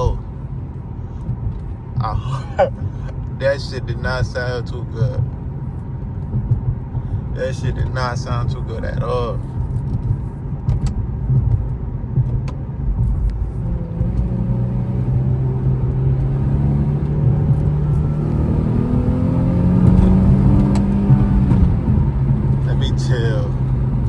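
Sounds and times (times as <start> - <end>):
car engine accelerating: 0.0 - 24.0
road noise rumble: 0.0 - 24.0.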